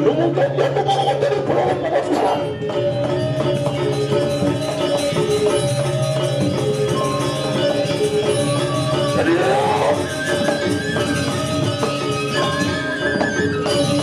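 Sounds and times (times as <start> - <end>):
fast percussion strokes: 0.0 - 14.0
ringing metallophone tones: 0.0 - 14.0.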